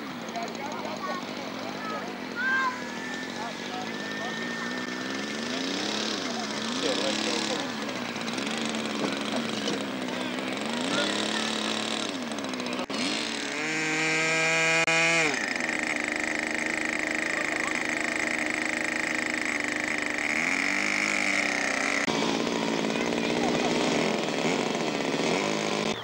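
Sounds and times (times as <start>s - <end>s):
model airplane engine buzzing: 0.0s - 26.0s.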